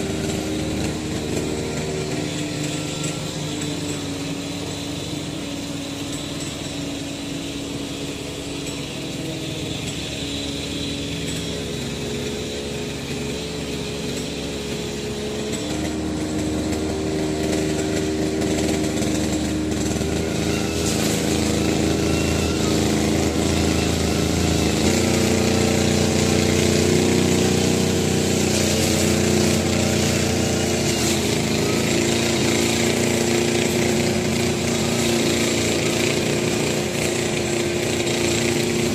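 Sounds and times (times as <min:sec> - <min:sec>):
lawn mower cutting grass: 0:00.0 - 0:38.9.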